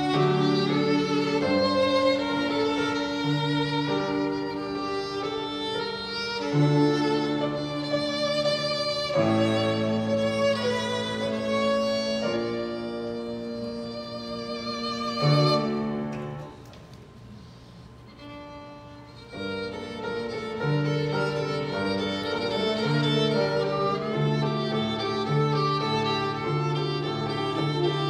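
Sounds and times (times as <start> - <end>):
piano accompaniment: 0.0 - 16.6, 19.0 - 28.0
violin melody: 0.0 - 16.6, 18.0 - 28.0.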